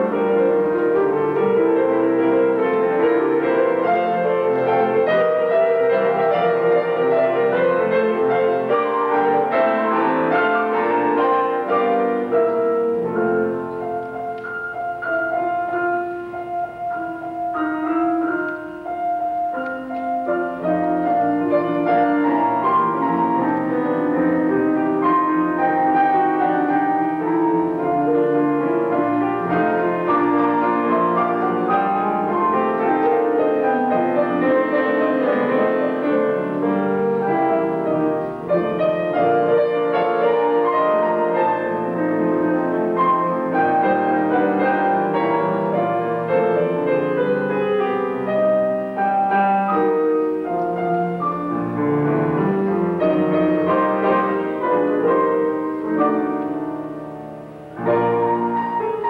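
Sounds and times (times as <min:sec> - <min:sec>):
piano duet: 0:00.0 - 0:59.0.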